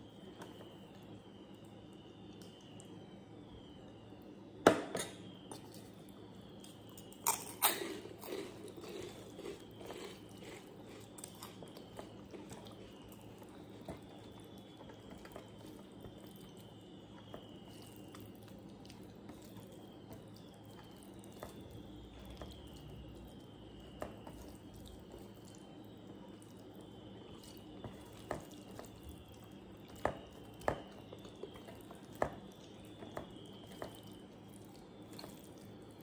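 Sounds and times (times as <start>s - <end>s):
wet squishing of food mixed by hand: 5.3s - 36.0s.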